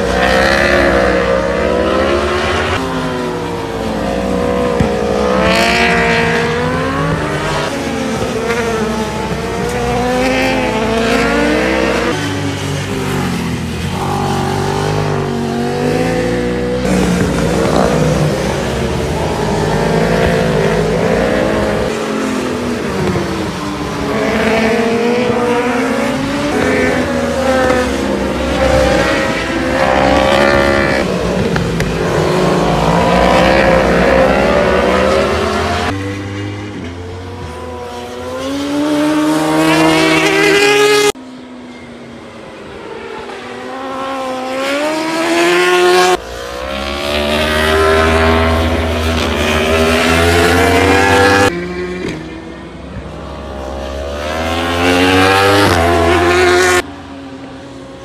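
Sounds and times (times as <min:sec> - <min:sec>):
racing motorcycles passing: 0:00.0 - 0:58.0.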